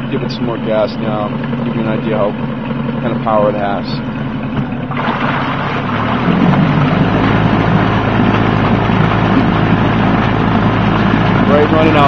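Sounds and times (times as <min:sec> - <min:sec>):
outboard motor revving: 0:00.0 - 0:12.0.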